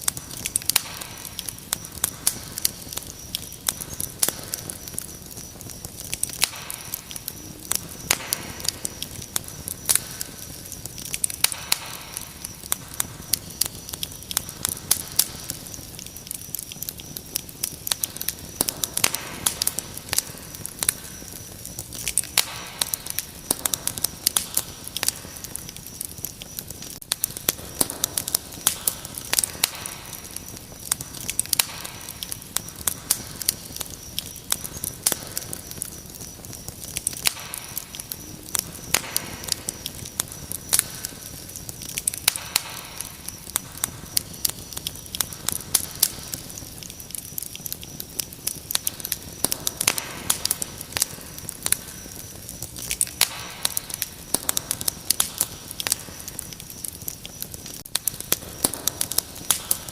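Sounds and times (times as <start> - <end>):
cricket trill: 0.0 - 59.9
wood fire crackling and popping: 0.0 - 59.9.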